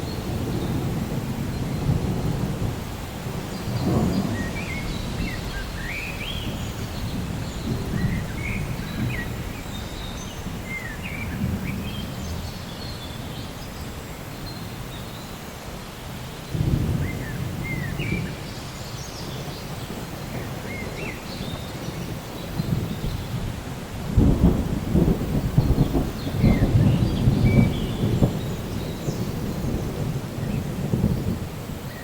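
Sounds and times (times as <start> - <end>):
low rolling thunder: 0.0 - 14.6, 16.5 - 32.0
rain: 0.0 - 32.0.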